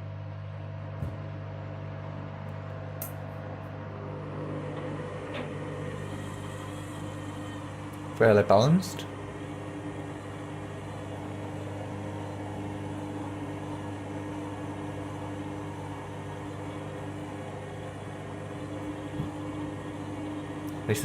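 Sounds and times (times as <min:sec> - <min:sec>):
washing machine humming: 0:00.0 - 0:21.0
drain pump running: 0:02.2 - 0:21.0.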